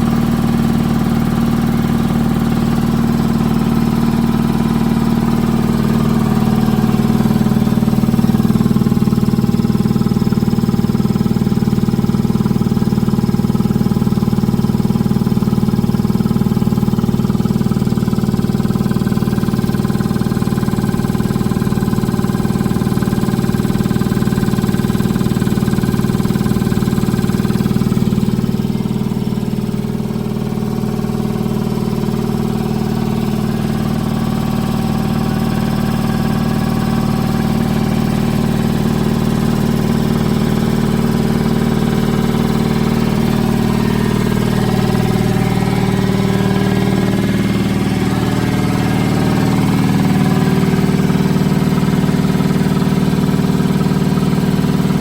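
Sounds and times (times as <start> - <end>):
air compressor humming: 0.0 - 55.0.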